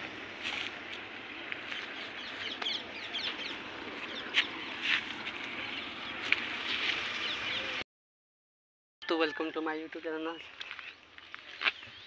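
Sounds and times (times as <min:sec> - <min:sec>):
birds chirping and calling: 0:00.0 - 0:07.8, 0:09.0 - 0:12.0.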